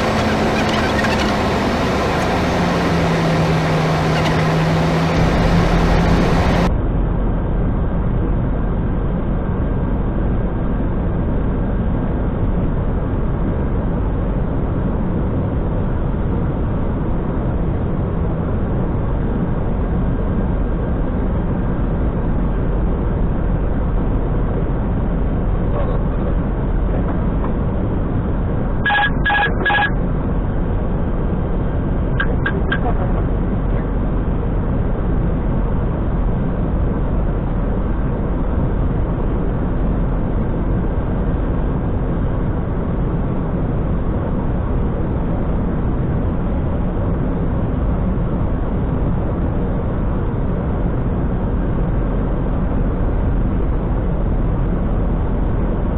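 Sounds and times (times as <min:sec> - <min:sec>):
airflow and engine rushing noise: 0:00.0 - 0:55.9.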